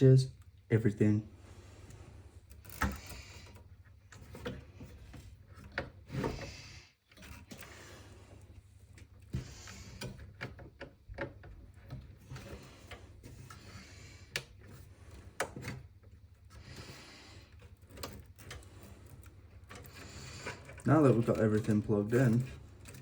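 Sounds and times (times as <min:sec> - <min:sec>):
plastic cables clicking and knocking: 0:02.5 - 0:06.5, 0:07.1 - 0:23.0.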